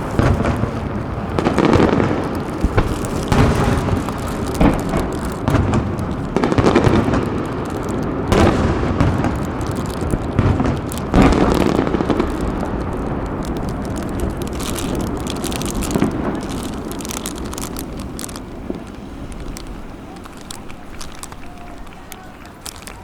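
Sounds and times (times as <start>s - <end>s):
firework boom: 0.0s - 19.0s
firework crackling: 0.0s - 23.0s.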